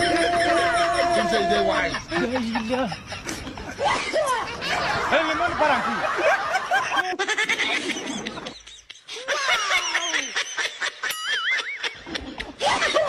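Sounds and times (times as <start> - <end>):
person laughing playfully: 0.0 - 13.0.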